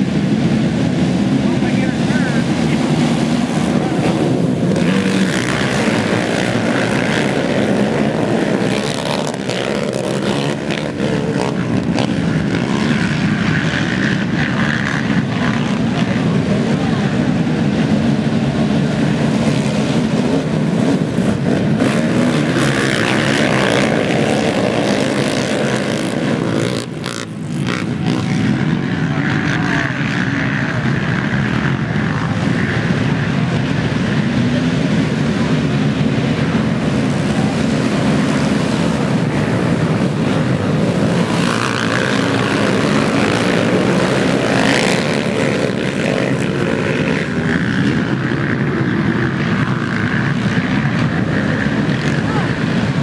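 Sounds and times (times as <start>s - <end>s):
racing quad engines: 0.0s - 53.0s.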